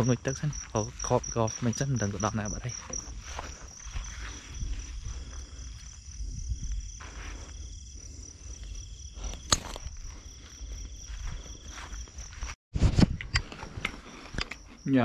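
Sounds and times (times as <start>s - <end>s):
insects chirring: 0.0s - 12.6s, 13.6s - 15.0s.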